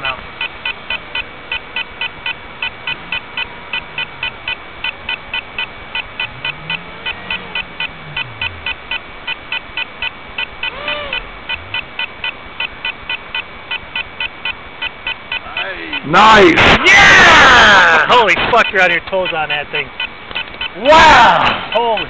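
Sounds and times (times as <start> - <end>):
noisy hiss: 0.0 - 22.0
rapid electronic alarm beeping: 0.0 - 22.0.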